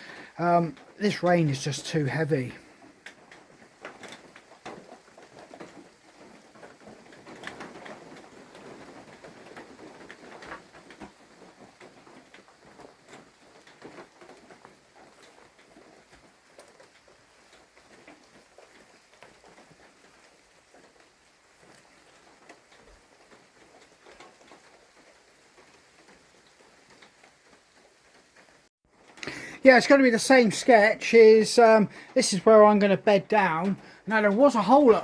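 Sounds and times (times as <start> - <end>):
heavy rain pattering on shelter: 0.0 - 35.0.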